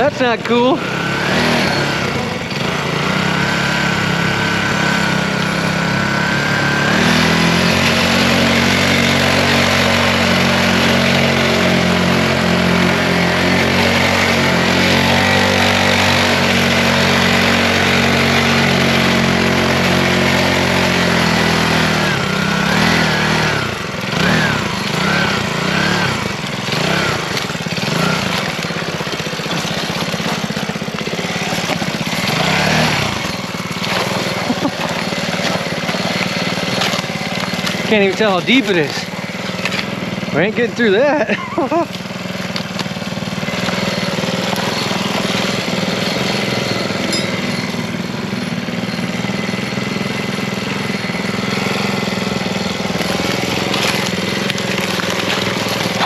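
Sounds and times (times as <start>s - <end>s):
small engine revving: 0.0s - 56.0s.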